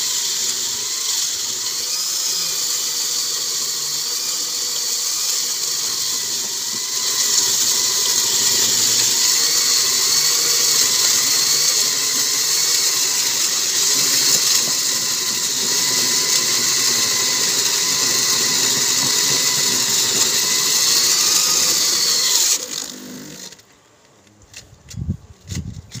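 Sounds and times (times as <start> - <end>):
core drill grinding into concrete: 0.0 - 23.7.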